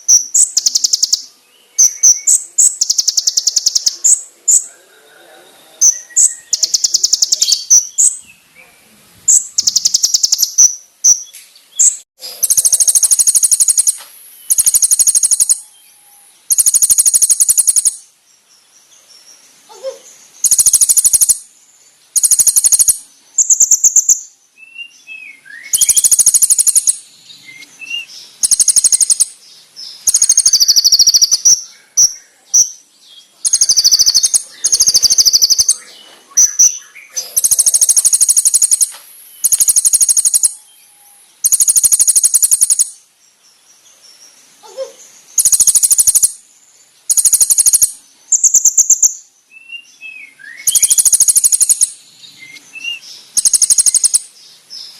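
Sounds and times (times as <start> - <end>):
sunbird high trilled song: 0.0 - 4.7, 5.8 - 54.9
faint lower chirps: 0.0 - 54.9.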